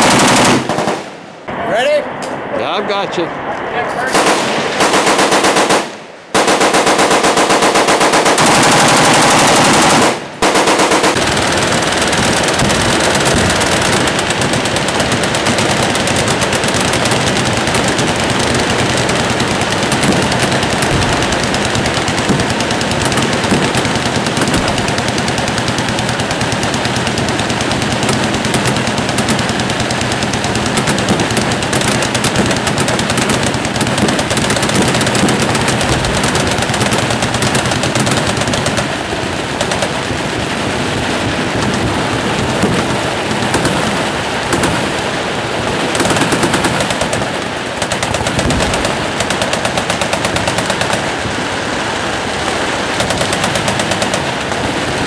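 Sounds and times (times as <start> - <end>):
full-auto rifle fire: 0.0 - 1.4, 4.1 - 55.0
many machine guns firing: 0.0 - 1.5, 4.0 - 55.0.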